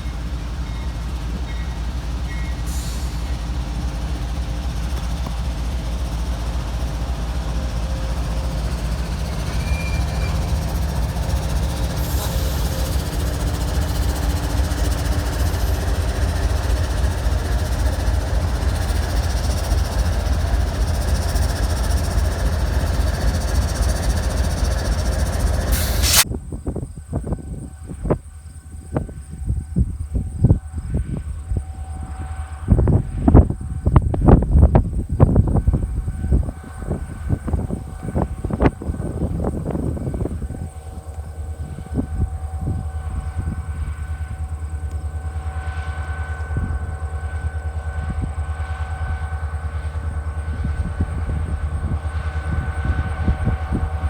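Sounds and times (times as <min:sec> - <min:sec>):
freight train rumbling past: 0:00.0 - 0:26.3, 0:29.2 - 0:54.0.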